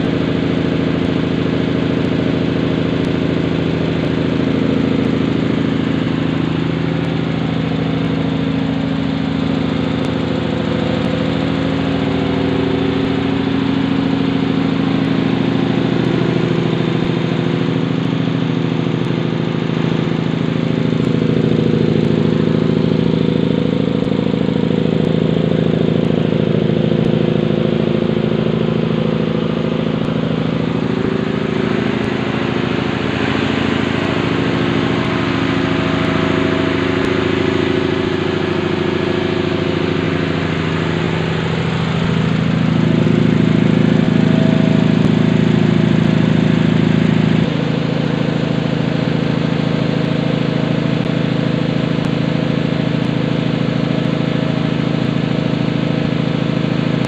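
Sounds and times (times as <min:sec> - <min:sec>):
air compressor humming and clattering: 0:00.0 - 0:57.0.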